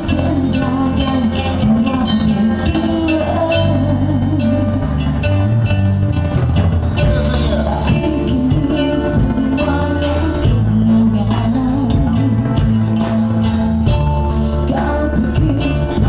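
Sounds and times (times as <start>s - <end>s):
drum kit steady beat: 0.0s - 16.0s
live band playing: 0.0s - 16.0s.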